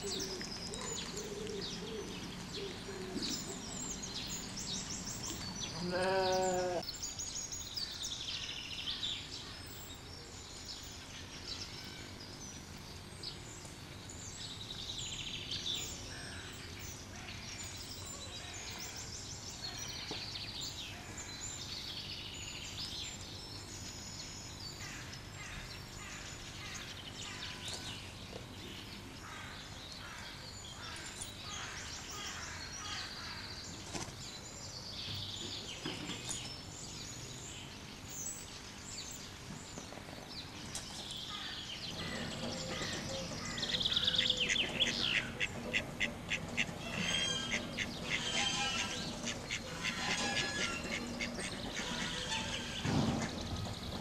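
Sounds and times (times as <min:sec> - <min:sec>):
outdoor background hiss: 0:00.0 - 0:54.0
songbirds chirping and trilling: 0:00.0 - 0:54.0.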